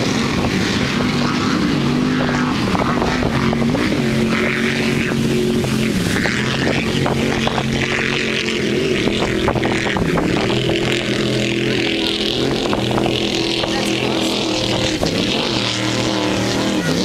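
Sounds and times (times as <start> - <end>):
racing powerboat engines: 0.0 - 17.0.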